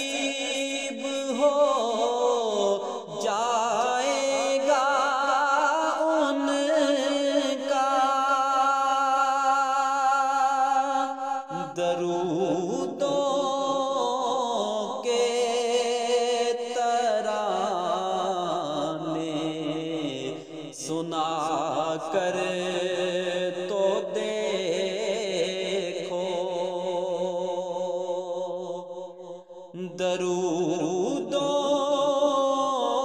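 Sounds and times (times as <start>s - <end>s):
person singing devotional song: 0.0s - 33.0s.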